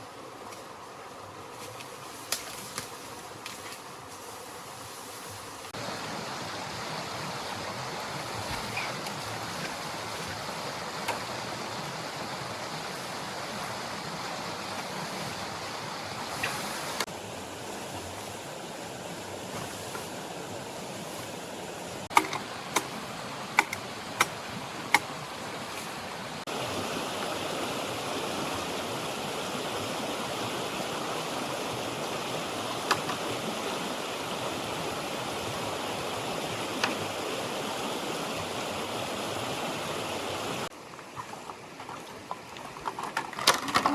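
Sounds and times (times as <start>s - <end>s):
stream water rushing: 5.4s - 43.9s.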